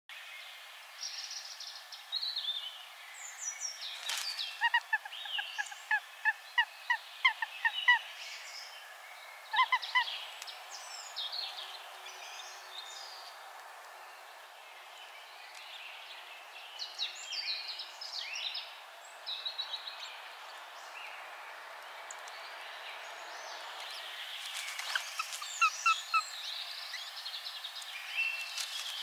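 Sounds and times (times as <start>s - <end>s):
songbirds singing: 0.1s - 29.0s.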